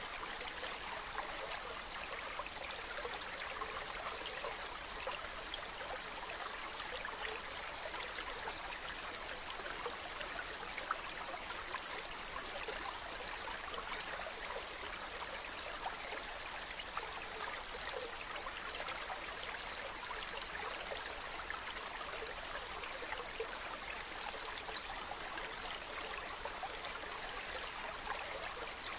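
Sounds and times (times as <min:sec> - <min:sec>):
stream babbling: 0:00.0 - 0:28.9.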